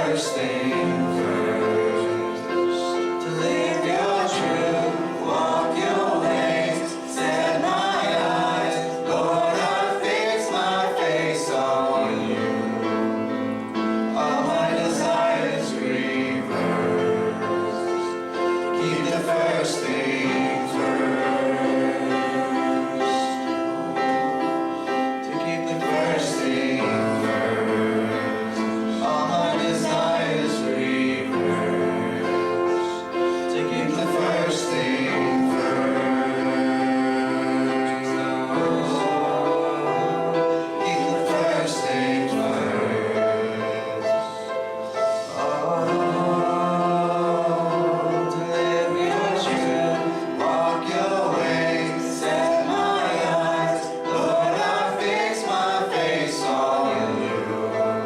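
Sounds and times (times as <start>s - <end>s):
group singing worship song: 0.0s - 58.0s.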